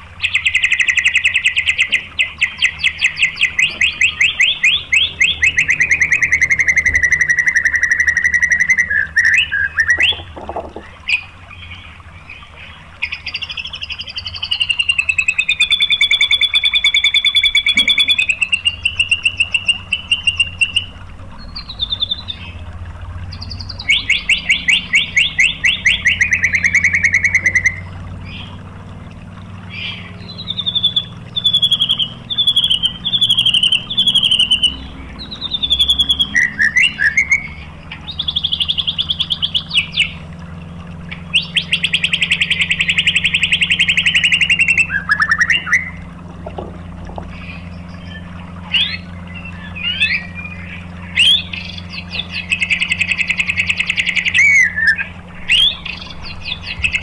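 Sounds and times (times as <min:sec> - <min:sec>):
bird singing fast trills: 0:00.0 - 0:57.0.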